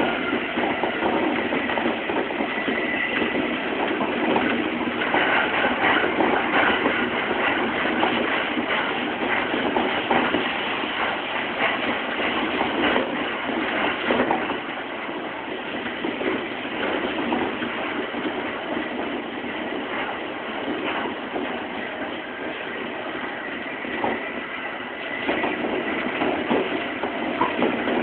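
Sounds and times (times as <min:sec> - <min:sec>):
train wheels rushing on rails: 0:00.0 - 0:28.0.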